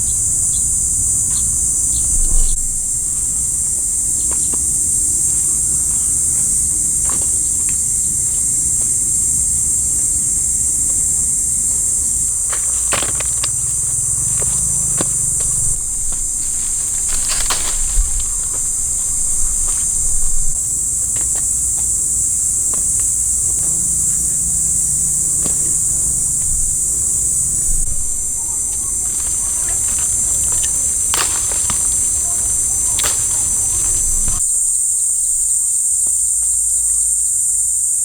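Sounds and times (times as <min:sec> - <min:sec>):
insect chorus shrilling: 0:00.0 - 0:38.0.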